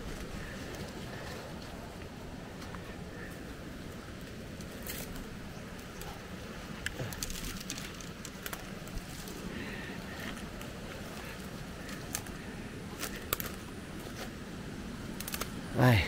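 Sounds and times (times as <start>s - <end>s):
sharp snaps and crackles: 0.0s - 14.4s, 15.0s - 15.8s
steady outdoor rush: 0.0s - 16.0s.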